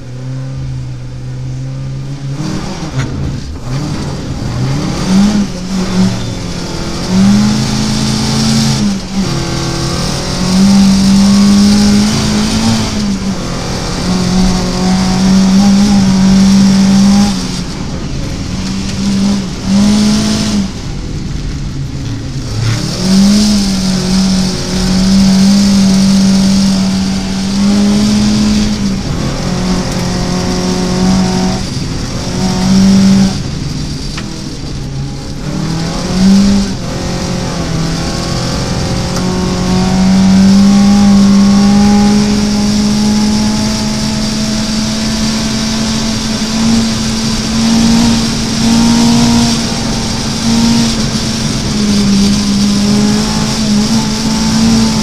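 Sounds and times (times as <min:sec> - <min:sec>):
rally car engine accelerating: 0:00.0 - 0:55.0.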